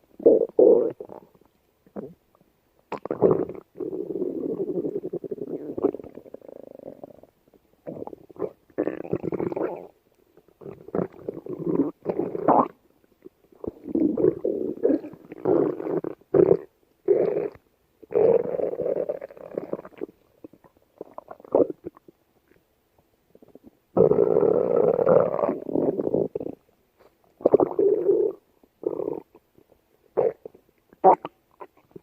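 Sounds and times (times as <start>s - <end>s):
stomach growling: 0.2s - 2.2s, 2.9s - 22.6s, 23.3s - 32.0s.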